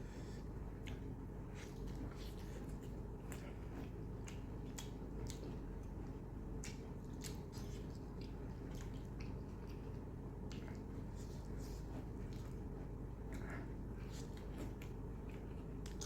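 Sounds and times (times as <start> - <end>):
steady low hum: 0.0 - 16.0
wet chewing: 0.8 - 16.0.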